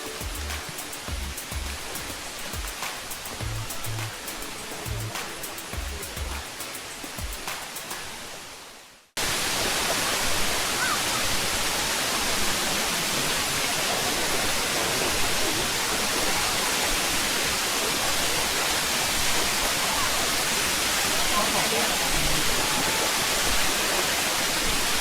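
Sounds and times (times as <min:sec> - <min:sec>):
waterfall pouring and splashing: 0:00.0 - 0:25.0.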